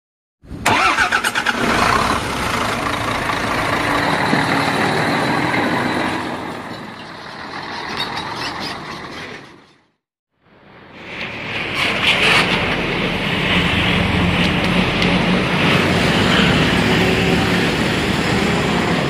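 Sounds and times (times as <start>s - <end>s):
tyre and road noise: 0.4s - 19.0s
diesel truck engine: 0.5s - 19.0s.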